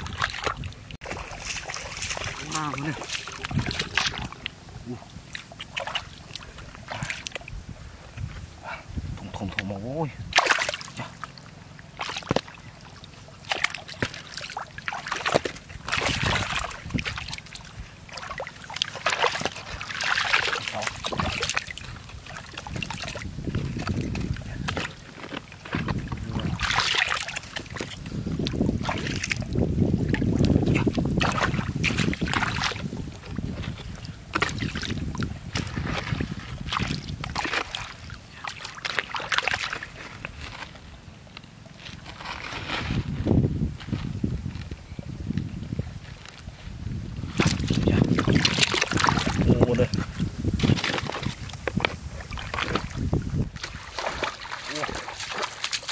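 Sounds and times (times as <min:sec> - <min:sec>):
water splashing and sloshing: 0:00.0 - 0:55.9.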